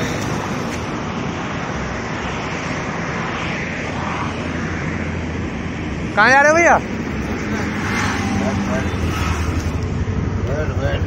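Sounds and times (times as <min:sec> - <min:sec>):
busy road traffic rumble: 0:00.0 - 0:11.0.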